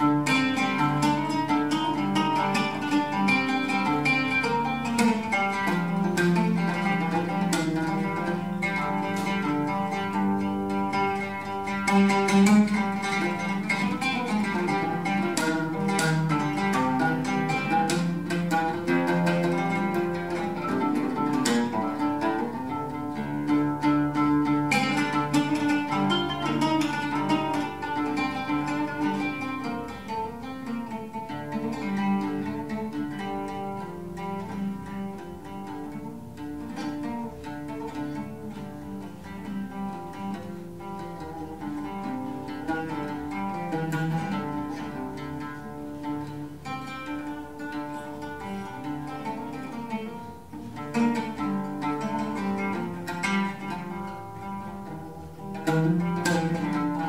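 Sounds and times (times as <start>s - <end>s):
oud plucked with plectrum: 0.0s - 57.0s.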